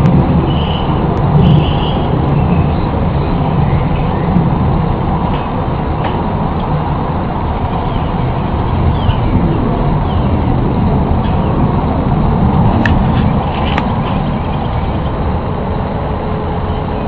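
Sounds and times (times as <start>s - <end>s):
low rumbling roar: 0.0s - 17.0s.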